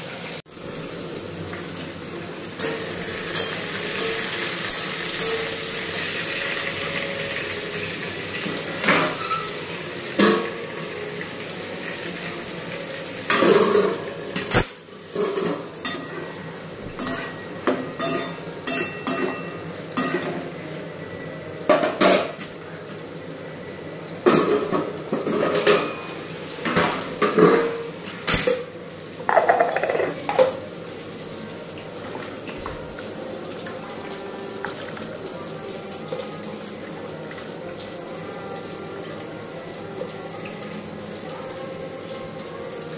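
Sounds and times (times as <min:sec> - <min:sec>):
vegetables sizzling in oil: 0:00.0 - 0:21.3, 0:22.3 - 0:35.7.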